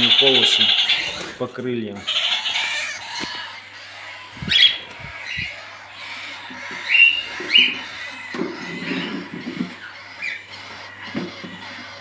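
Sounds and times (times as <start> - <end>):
cockatiels chattering: 0.0 - 12.0
loud bird squawks: 0.0 - 12.0.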